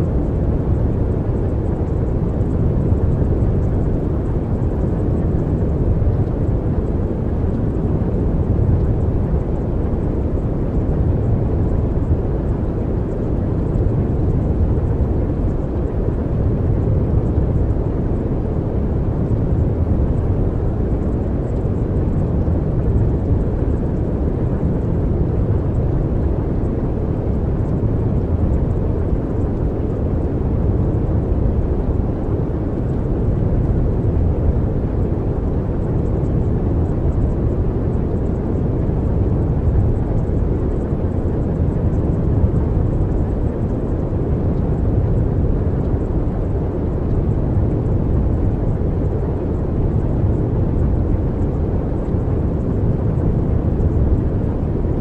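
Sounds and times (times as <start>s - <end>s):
steady low rumbling noise: 0.0s - 55.0s.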